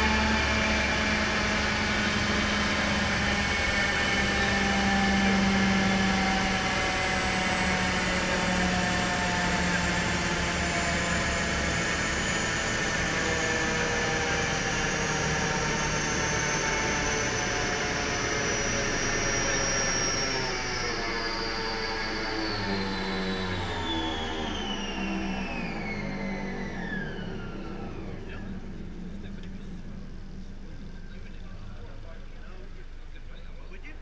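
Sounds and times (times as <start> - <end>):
car engine running: 0.0 - 34.0
faint whining tones falling in pitch: 0.0 - 34.0
workshop cooling fan rushing: 0.0 - 34.0.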